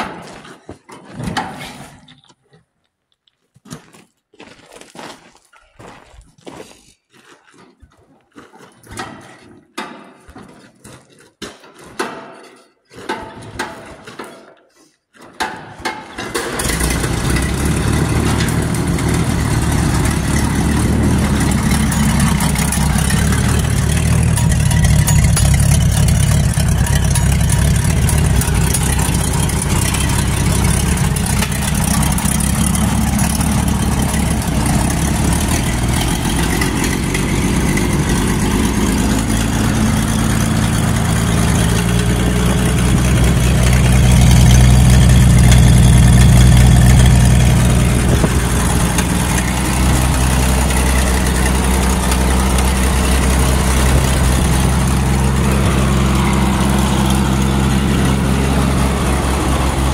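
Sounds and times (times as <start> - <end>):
tractor engine cranking and idling: 11.4 - 59.9.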